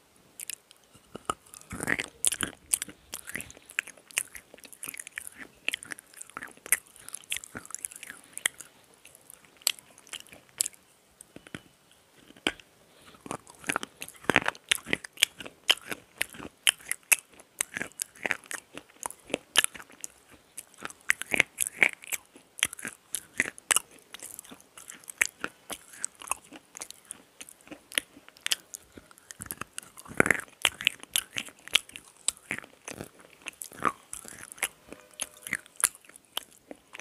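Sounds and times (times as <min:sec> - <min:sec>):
crunching and chewing slate pencil: 0:00.4 - 0:37.0.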